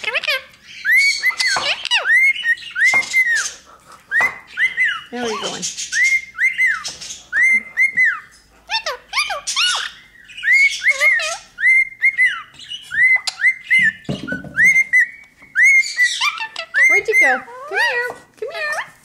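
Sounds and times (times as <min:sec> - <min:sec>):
parrot chirping: 0:00.0 - 0:19.0
parrot whistling: 0:00.1 - 0:18.1.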